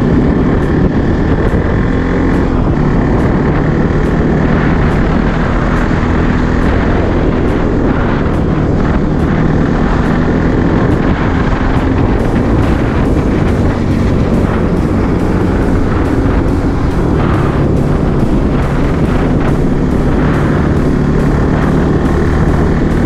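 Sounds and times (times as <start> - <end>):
motorcycle engine cruising: 0.0 - 23.0
wind rush on microphone: 0.0 - 23.0.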